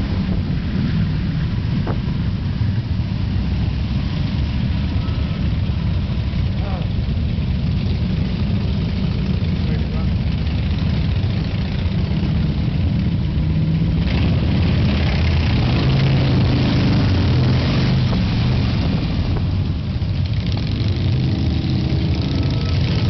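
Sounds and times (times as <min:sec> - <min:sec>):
loud vehicle engines running: 0:00.0 - 0:23.0.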